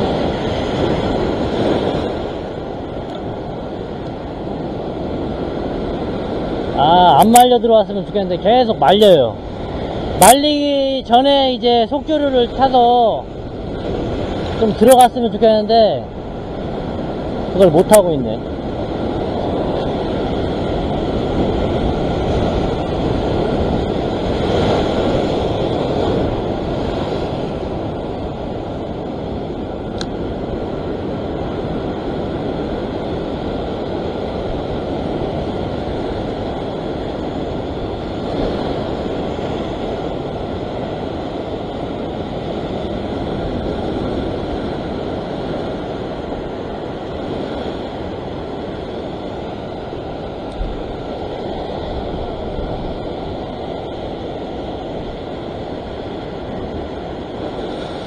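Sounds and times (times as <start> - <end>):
sea surf on rock: 0.0 - 58.0
wind on microphone: 0.0 - 58.0.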